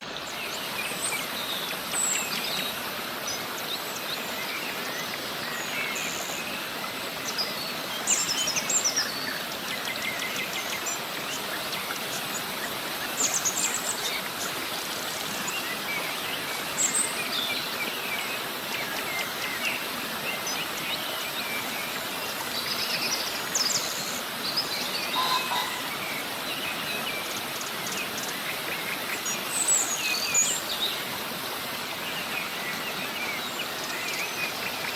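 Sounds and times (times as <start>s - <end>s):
river cascade rushing: 0.0s - 34.9s
birds chirping and trilling: 0.2s - 34.9s.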